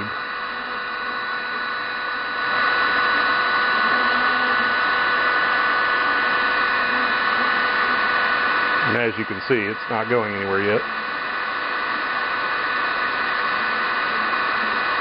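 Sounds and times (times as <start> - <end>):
heat gun blowing with motor whine: 0.0 - 15.0.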